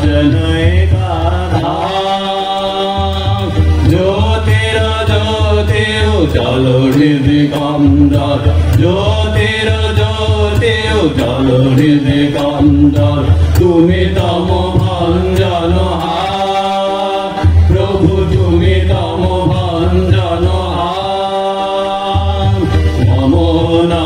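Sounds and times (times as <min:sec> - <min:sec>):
low instrumental accompaniment: 0:00.0 - 0:24.0
men singing in unison: 0:00.0 - 0:24.0.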